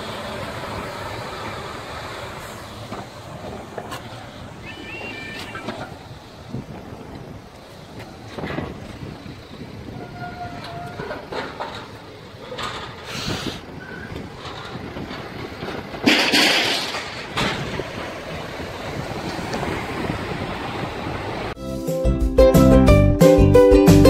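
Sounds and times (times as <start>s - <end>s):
cars driving over rails: 0.0s - 21.6s.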